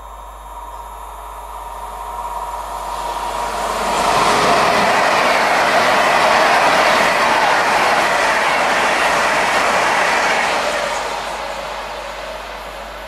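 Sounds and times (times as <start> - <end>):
train approaching on track: 0.0 - 13.0.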